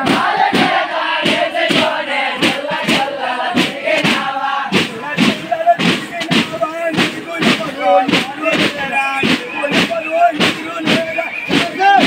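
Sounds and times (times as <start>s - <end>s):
frame drum strikes: 0.0s - 12.0s
men chanting and singing: 0.0s - 12.0s.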